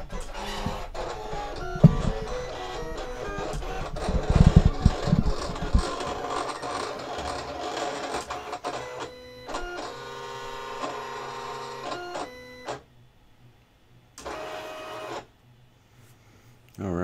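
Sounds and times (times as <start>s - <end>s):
vinyl cutter motors whirring: 0.0s - 12.8s, 14.2s - 15.3s.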